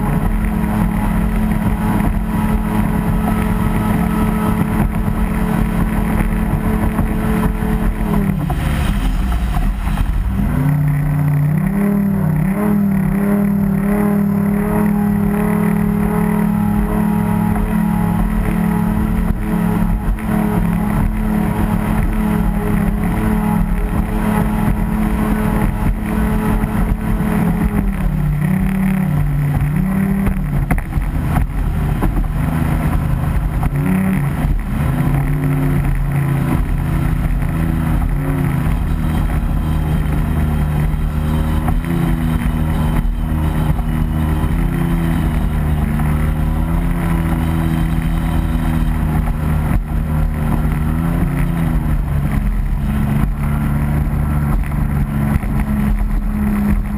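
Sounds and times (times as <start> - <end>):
boat motor running hard: 0.0 - 56.9
water and wind rushing: 0.0 - 56.9.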